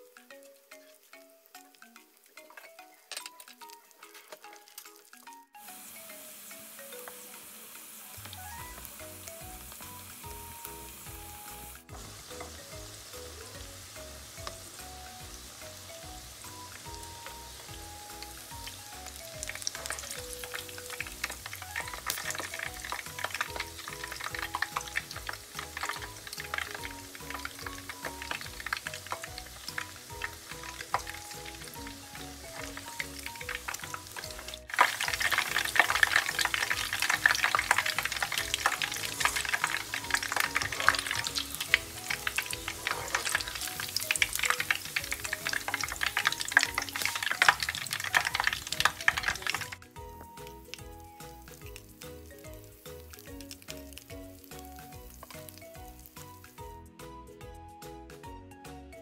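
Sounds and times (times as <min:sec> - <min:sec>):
food deep-frying in oil: 0:00.0 - 0:56.7
soft background music: 0:00.0 - 0:59.0.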